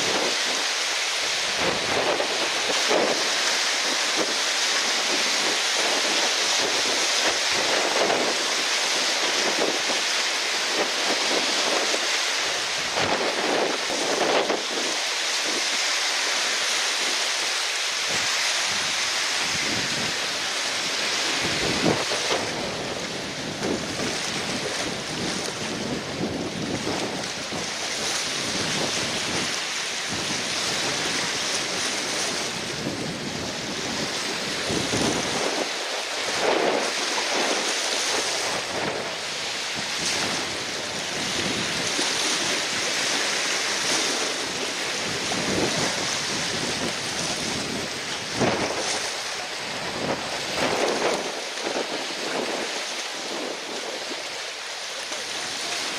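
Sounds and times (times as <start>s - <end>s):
gusty wind buffeting microphone: 0.0s - 17.3s, 18.0s - 54.7s
rushing splashing water: 0.0s - 55.9s.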